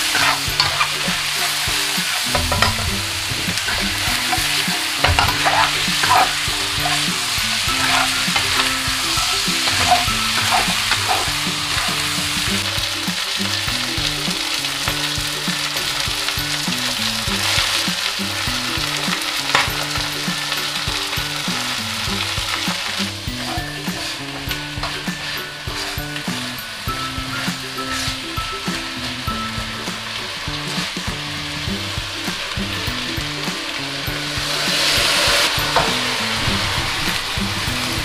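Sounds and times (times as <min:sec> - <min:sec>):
chicken sizzling in hot oil: 0:00.0 - 0:38.0
spatula scraping and knocking wok: 0:00.0 - 0:38.0.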